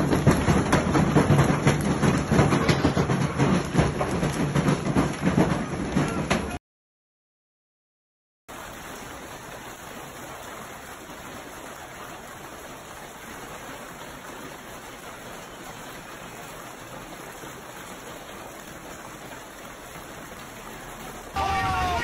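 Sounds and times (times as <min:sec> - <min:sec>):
hail and rain falling hard: 0:00.0 - 0:06.6, 0:08.5 - 0:22.0.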